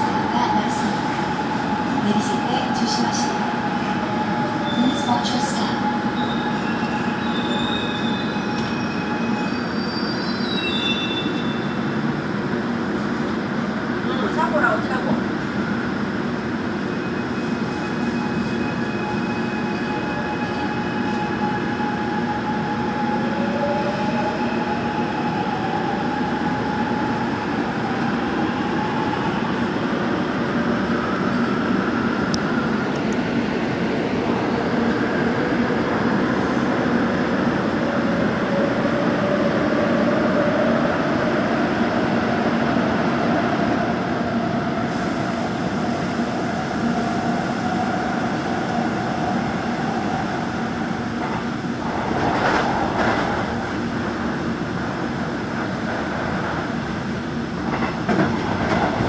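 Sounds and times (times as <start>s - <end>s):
train wheel and running noise: 0.0s - 59.0s.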